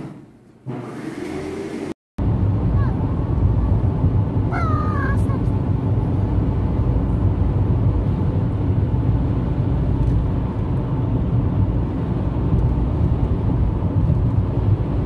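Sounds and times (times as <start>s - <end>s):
car cabin road and engine rumble: 2.2s - 15.0s.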